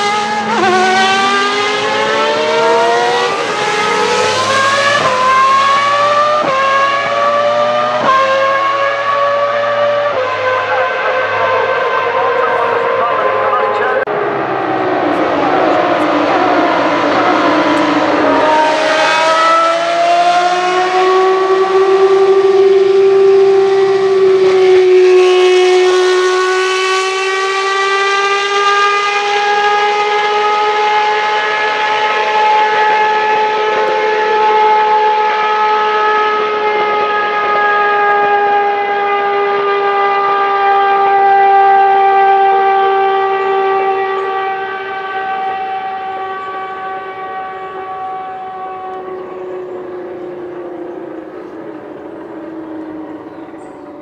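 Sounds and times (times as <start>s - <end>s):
racing car engine at high revs: 0.0s - 54.0s.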